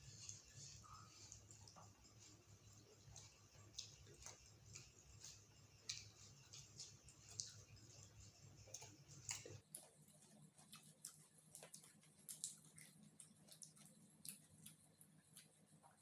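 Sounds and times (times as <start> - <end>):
low steady hum: 0.0 - 16.0
chewing clicks and lip smacks: 1.3 - 16.0.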